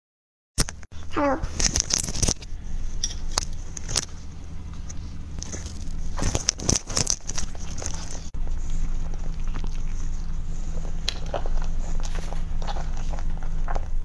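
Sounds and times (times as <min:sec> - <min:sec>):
low steady hum: 0:00.6 - 0:14.0.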